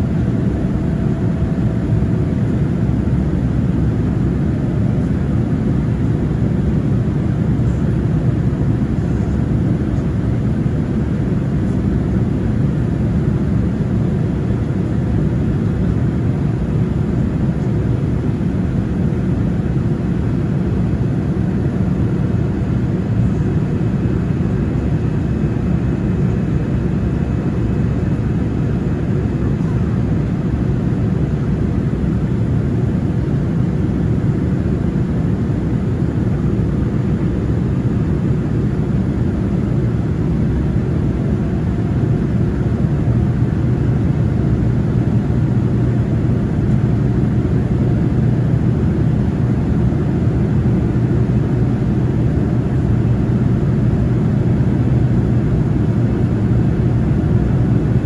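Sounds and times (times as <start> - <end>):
aircraft cabin rumble: 0.0 - 58.0
jet engines running: 0.0 - 58.0.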